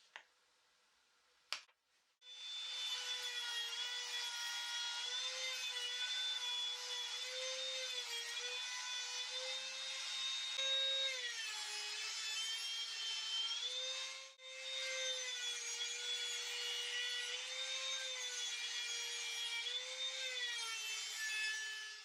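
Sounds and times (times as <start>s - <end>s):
router whining cutting wood: 2.3s - 11.8s, 12.4s - 22.0s.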